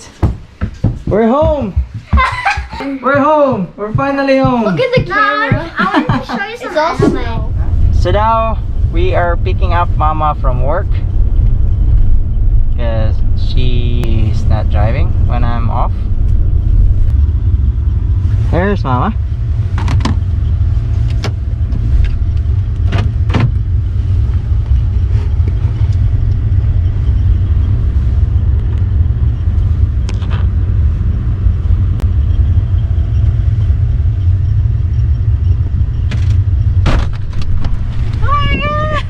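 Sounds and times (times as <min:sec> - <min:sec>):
car road rumble: 0:00.0 - 0:39.0.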